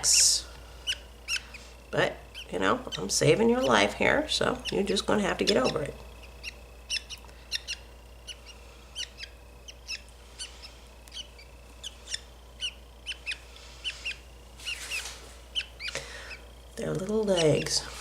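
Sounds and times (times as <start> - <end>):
chick chirping high-pitched: 0.0 - 1.6, 2.3 - 16.4.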